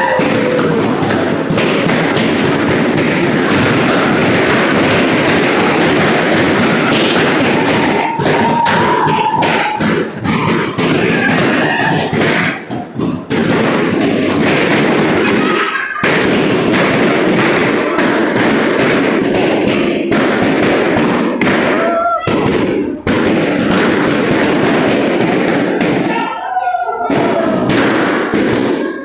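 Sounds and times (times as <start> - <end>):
voices shouting: 0.0 - 13.0, 14.6 - 18.5, 21.4 - 29.0
balloons popping: 0.0 - 26.4, 27.1 - 29.0.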